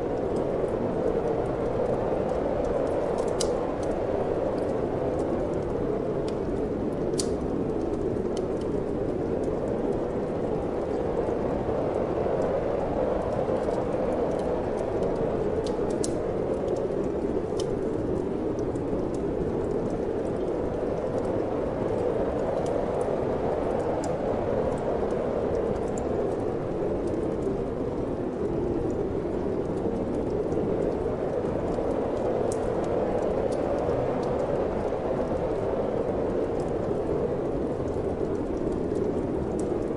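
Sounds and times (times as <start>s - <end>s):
rushing wind: 0.0s - 39.9s
wood fire crackling and popping: 0.0s - 39.9s.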